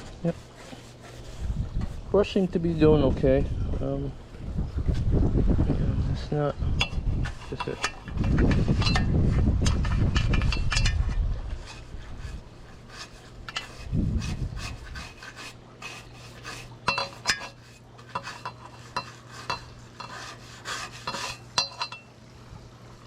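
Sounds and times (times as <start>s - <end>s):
brush scrubbing and scraping: 0.0s - 3.6s, 6.8s - 22.1s
steady low hum: 0.0s - 23.0s.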